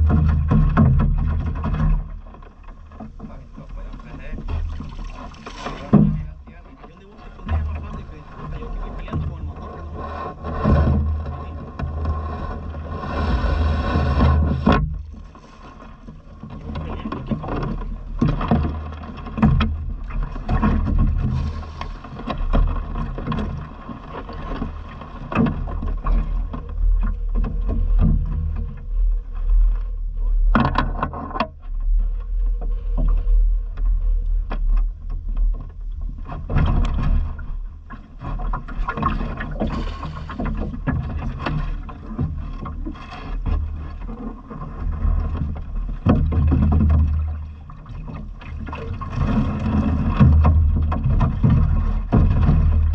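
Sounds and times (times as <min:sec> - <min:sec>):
water around a boat: 0:00.0 - 0:52.9
wind: 0:00.0 - 0:52.9.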